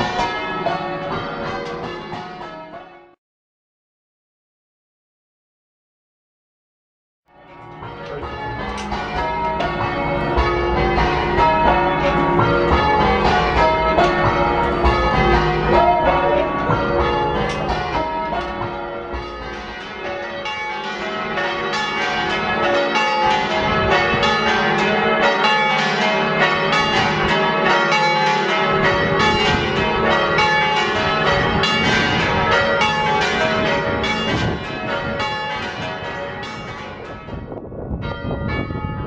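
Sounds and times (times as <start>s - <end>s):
church bells rung in changes: 0.0s - 3.2s, 7.3s - 39.0s.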